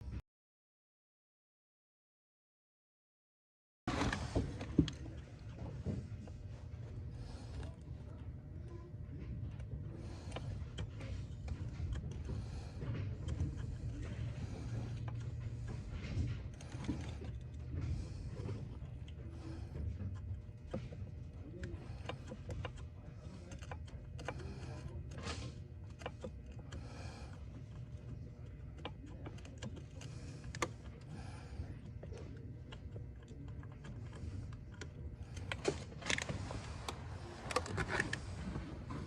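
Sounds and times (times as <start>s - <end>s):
low steady hum: 3.9s - 39.0s.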